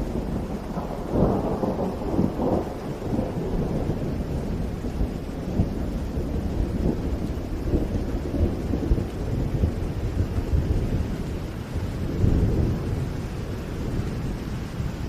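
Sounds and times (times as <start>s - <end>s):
low rumble of thunder: 0.0s - 15.0s
rain falling steadily: 0.0s - 15.0s.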